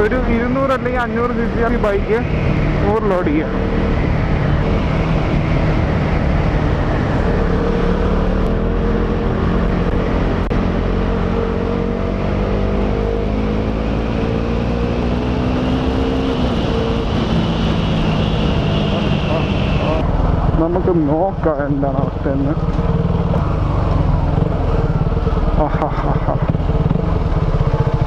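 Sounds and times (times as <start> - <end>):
motorcycle engine revving: 0.0 - 28.0
wind and road noise: 0.0 - 28.0.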